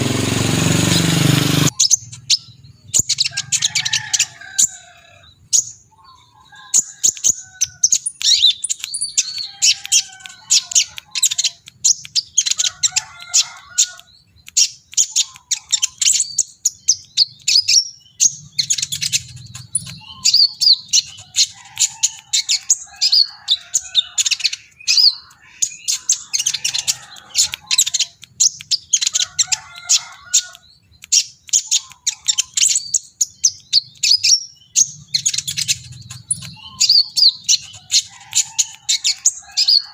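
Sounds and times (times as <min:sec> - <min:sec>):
sunbird chirping: 0:00.9 - 0:39.9.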